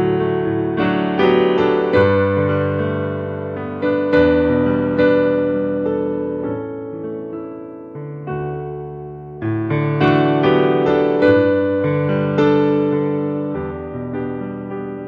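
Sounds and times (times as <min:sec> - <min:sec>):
keyboard playing sustained chords: 0:00.0 - 0:14.9.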